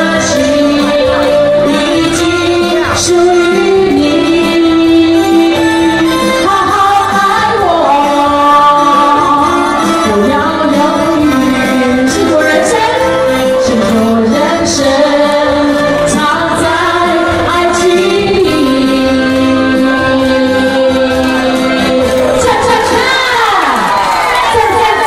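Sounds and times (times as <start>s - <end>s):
singing with instrumental music: 0.0s - 25.0s.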